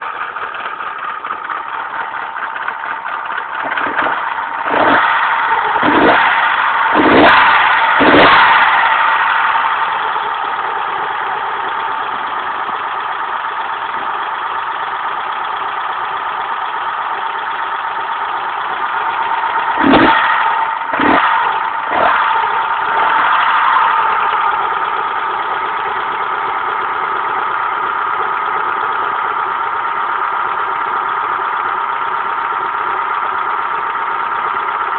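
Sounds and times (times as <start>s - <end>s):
car engine idling: 0.0s - 34.9s
engine throttle blips: 0.0s - 34.9s.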